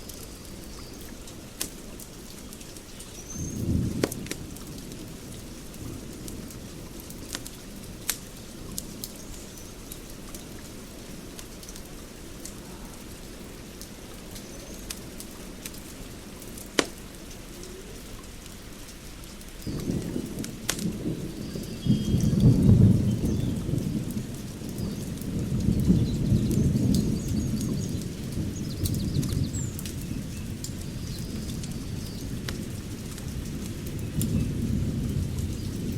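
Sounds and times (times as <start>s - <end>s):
fire crackles and pops: 0.0s - 21.8s, 22.4s - 35.9s.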